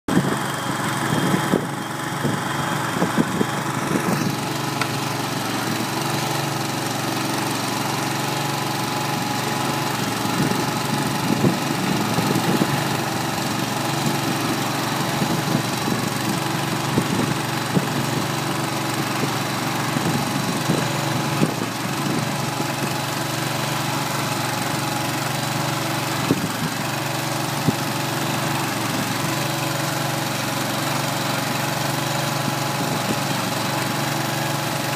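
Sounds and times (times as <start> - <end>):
gas engine running: 0.1 - 34.9.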